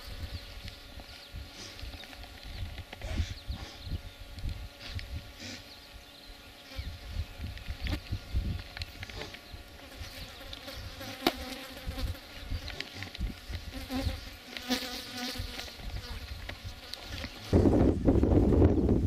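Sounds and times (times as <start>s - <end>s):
insect buzzing: 0.0s - 17.9s.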